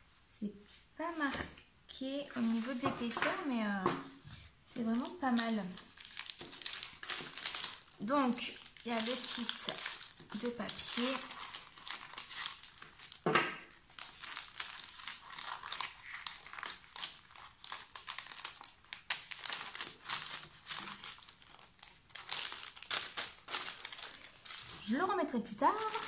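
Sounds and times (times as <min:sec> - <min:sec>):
plastic sleeve crinkling: 0:02.4 - 0:03.4, 0:04.1 - 0:26.0.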